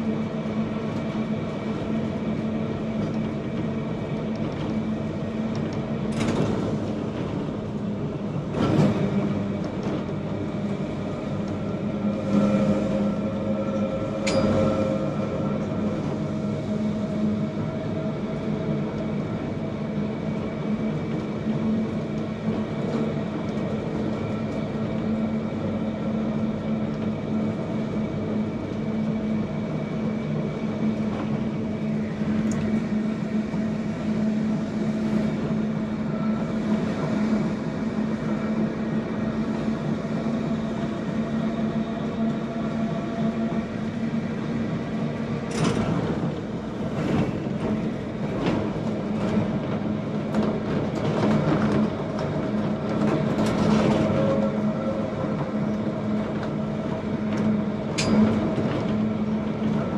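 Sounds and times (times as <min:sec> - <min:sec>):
tram motor and wheel hum: 0:00.0 - 0:59.9.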